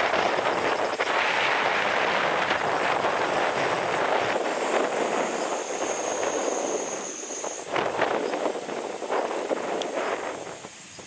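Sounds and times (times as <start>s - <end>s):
jet engines taxiing: 0.0s - 11.0s.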